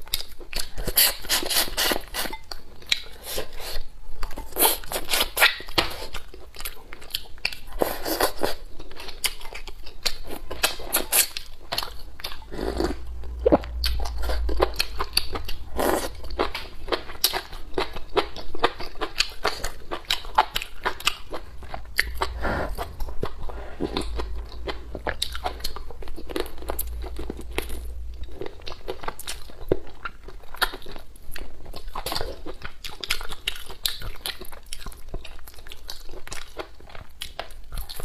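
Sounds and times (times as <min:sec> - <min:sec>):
person chewing chicken: 0:00.0 - 0:38.0.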